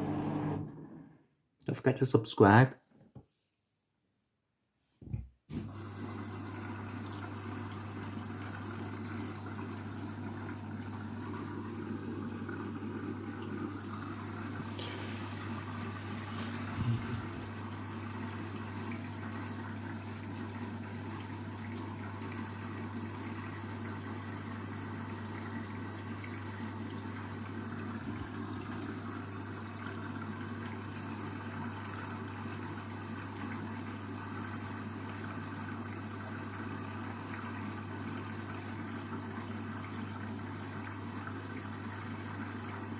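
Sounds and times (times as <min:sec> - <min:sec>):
drain pump humming: 0:00.0 - 0:01.0, 0:05.5 - 0:42.9.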